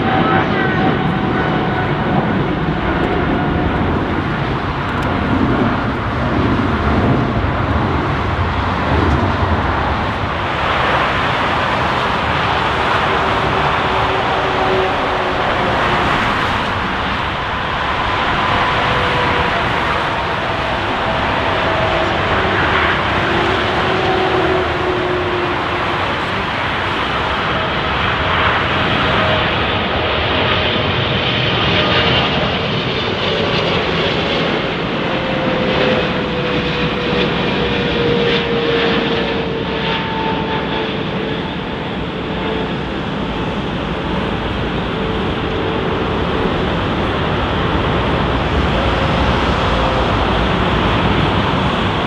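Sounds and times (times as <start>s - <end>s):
jet engines roaring: 0.0s - 52.0s.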